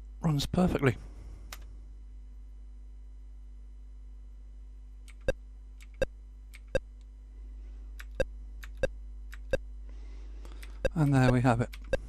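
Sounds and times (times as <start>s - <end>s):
mains hum: 0.0s - 12.0s.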